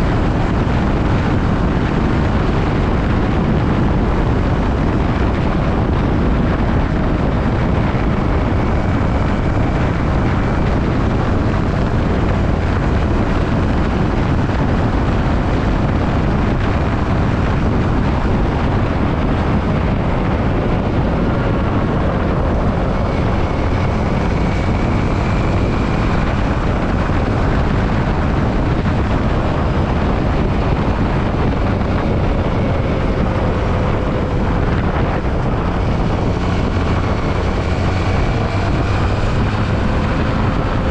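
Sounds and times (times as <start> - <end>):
faint motorcycle engine: 0.0 - 40.9
wind noise on microphone: 0.0 - 40.9.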